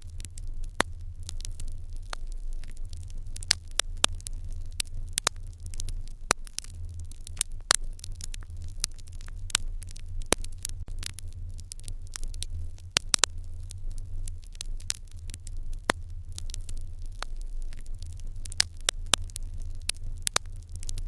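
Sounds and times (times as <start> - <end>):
fire crackling and popping: 0.0 - 21.0
low steady rumble: 0.0 - 21.0.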